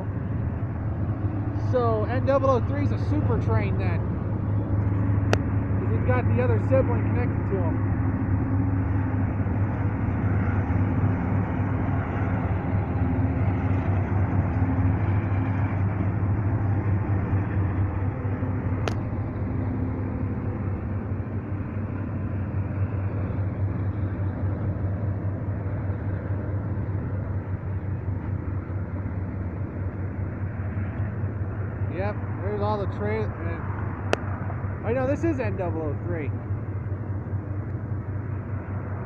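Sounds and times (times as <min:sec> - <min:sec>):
diesel locomotive hum: 0:00.0 - 0:39.0
freight train wheels rumbling: 0:00.0 - 0:39.0.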